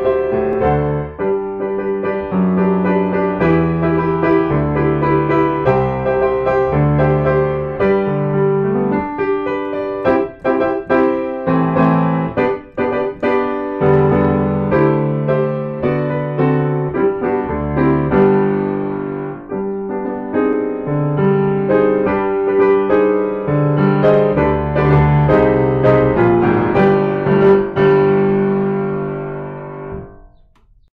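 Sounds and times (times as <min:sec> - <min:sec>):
piano playing chords: 0:00.0 - 0:30.9.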